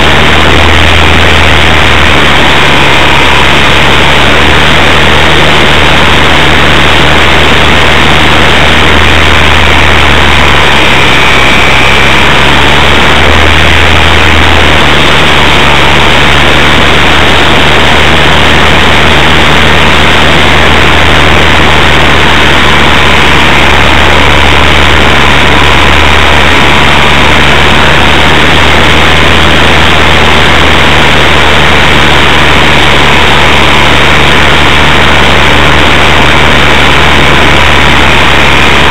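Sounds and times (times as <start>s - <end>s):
propeller and motor drone: 0.0s - 38.9s.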